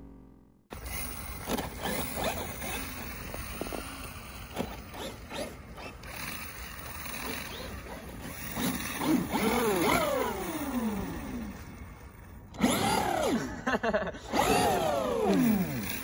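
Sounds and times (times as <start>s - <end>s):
rc truck motor whining: 0.0s - 13.6s, 14.2s - 16.0s.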